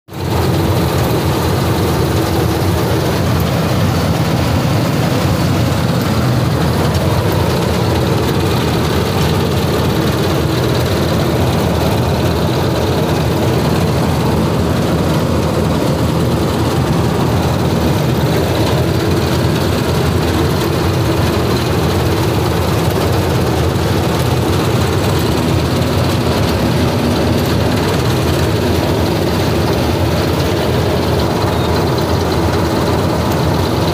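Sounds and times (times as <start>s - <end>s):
combine harvester engine drone: 0.1s - 33.9s.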